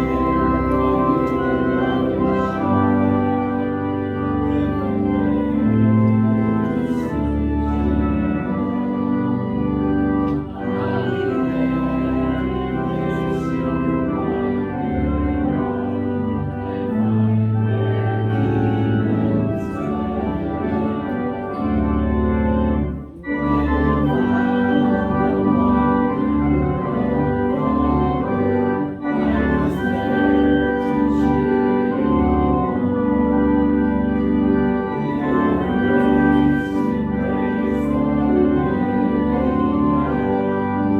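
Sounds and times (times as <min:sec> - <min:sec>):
organ playing a hymn: 0:00.0 - 0:40.9.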